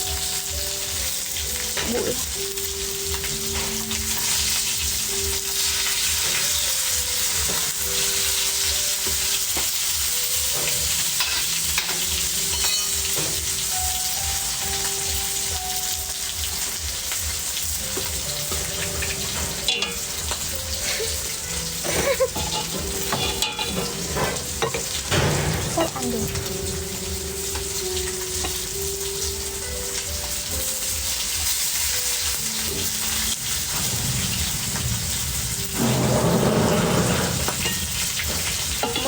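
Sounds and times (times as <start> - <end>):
food sizzling in oil: 0.0 - 39.0.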